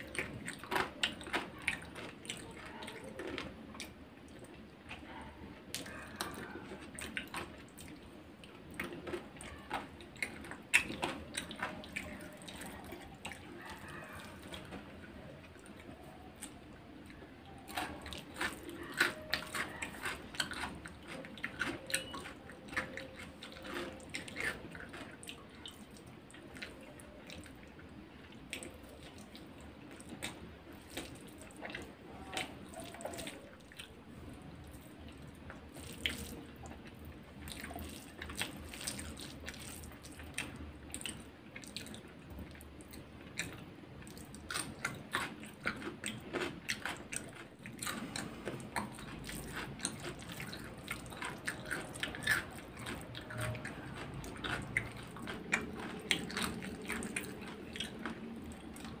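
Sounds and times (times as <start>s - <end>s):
squelchy mixing of rice: 0.0s - 59.0s
wet chewing and lip smacks: 0.0s - 59.0s.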